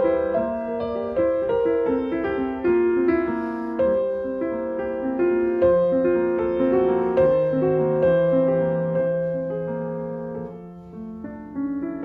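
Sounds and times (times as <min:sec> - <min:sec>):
soft slow piano melody: 0:00.0 - 0:12.0.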